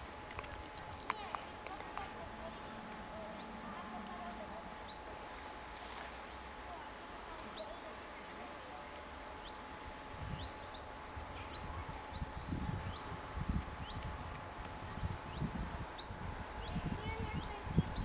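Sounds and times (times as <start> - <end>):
low rumble on microphone: 0.0 - 8.5, 9.3 - 18.0
songbirds chirping: 0.0 - 18.0.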